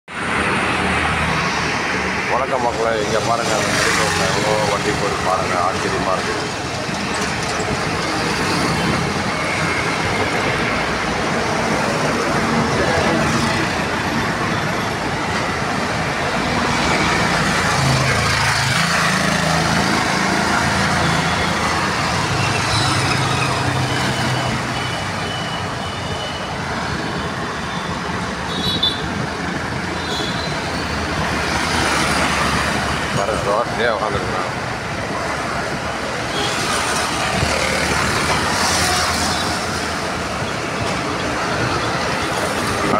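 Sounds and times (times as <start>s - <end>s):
road noise rush: 0.0s - 42.9s
vehicle engines passing: 0.1s - 25.9s, 26.5s - 42.9s.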